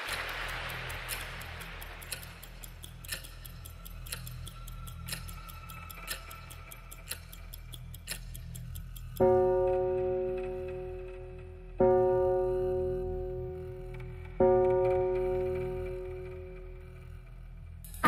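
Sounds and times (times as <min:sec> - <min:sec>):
clock ticking: 0:00.0 - 0:18.0.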